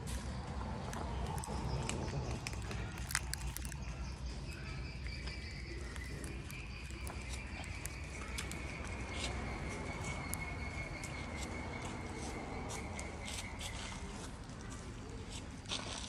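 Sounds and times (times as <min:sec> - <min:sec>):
cats chewing and licking: 0:00.6 - 0:16.0.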